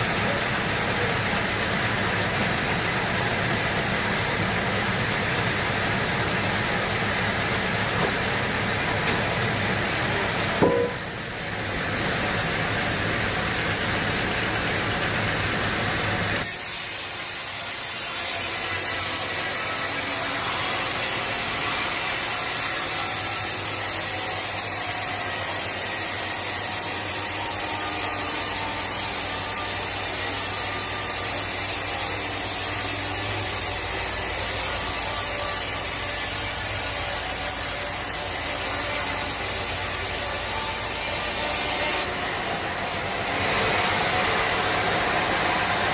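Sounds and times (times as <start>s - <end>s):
sawmill saw cutting log: 0.0s - 45.9s.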